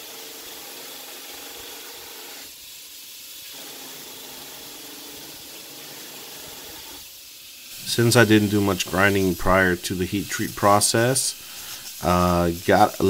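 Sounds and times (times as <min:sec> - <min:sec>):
belt grinder grinding steel: 0:00.0 - 0:13.0.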